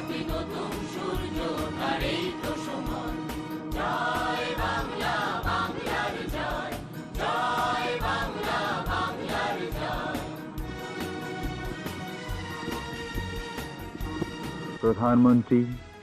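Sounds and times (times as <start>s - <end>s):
choir singing: 0.0s - 13.2s
musical accompaniment: 0.0s - 16.0s.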